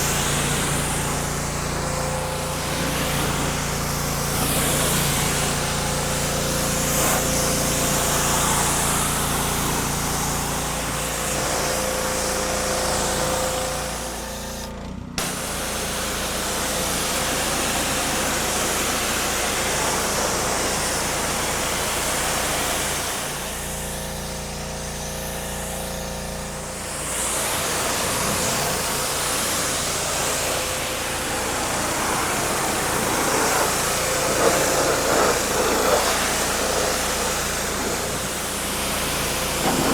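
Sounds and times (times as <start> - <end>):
high-pressure water spray hiss: 0.0 - 39.9
pressure washer engine hum: 0.0 - 39.9.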